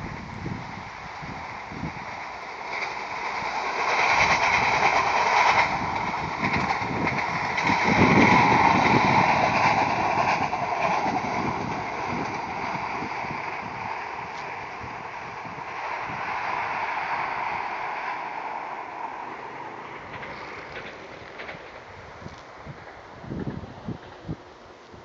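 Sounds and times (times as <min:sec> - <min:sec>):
diesel train passing by: 0:00.0 - 0:25.0.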